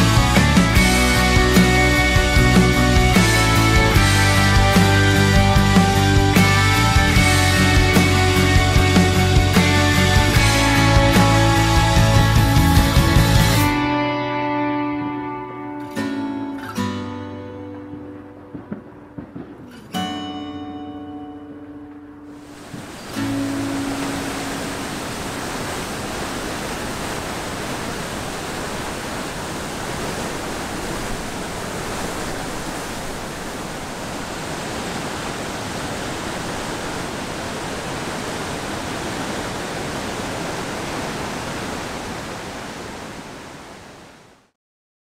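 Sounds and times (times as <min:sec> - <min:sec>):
rushing water: 0:00.0 - 0:44.6.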